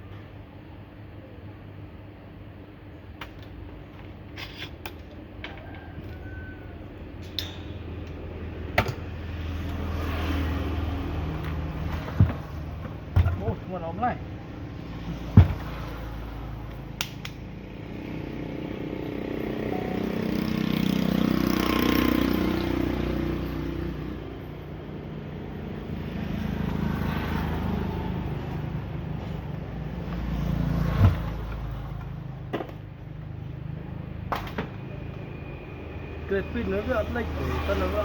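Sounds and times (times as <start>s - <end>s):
passing motor vehicles: 5.1s - 38.0s.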